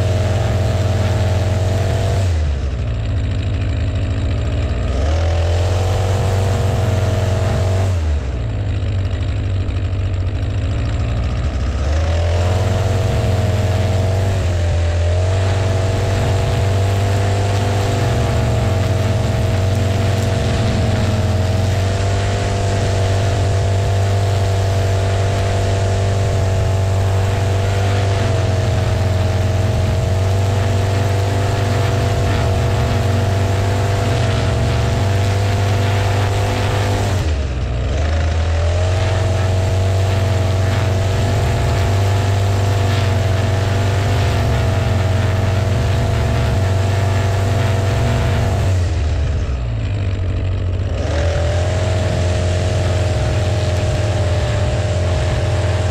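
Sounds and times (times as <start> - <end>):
string trimmer running: 0.0 - 55.9.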